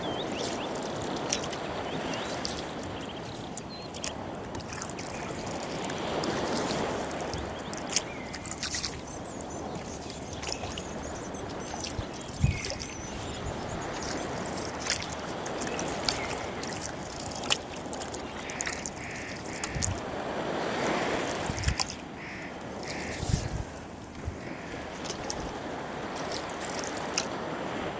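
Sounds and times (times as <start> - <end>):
birds calling: 0.0 - 25.4
oars splashing through water: 0.0 - 27.9.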